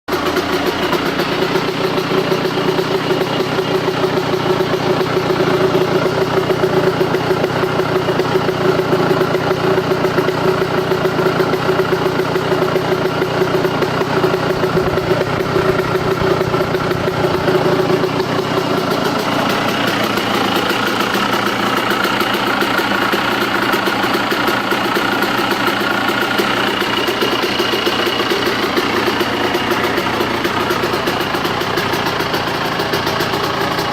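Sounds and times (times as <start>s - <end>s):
engine knocking: 0.1s - 33.9s
motorcycle engine idling: 0.1s - 33.9s.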